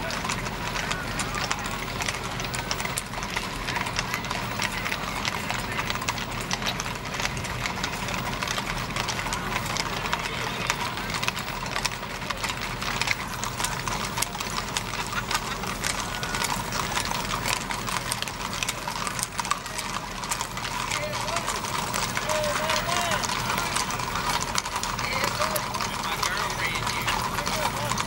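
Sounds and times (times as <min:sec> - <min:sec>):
horse hooves clip-clopping on pavement: 0:00.0 - 0:28.0.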